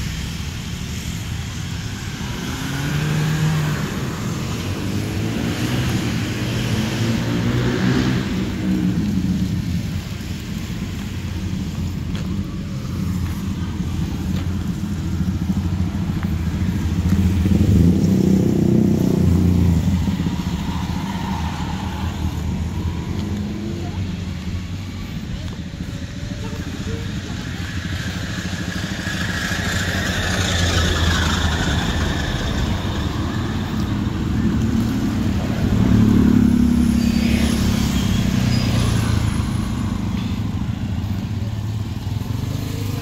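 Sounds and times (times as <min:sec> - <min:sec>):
motorcycles and scooters passing: 0:00.0 - 0:43.0.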